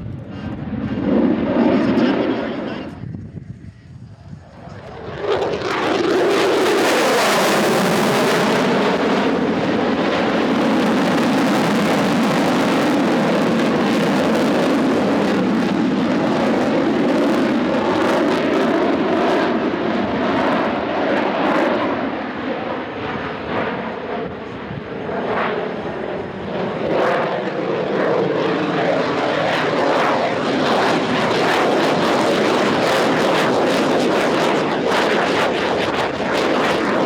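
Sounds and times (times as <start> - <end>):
aircraft flying by: 0.0 - 37.0.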